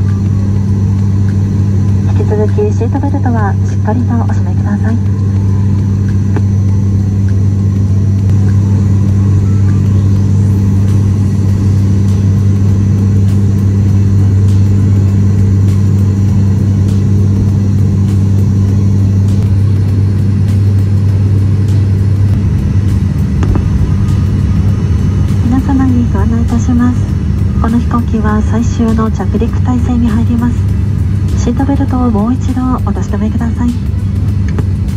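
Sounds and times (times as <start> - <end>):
turboprop engine drone in cabin: 0.0 - 34.9.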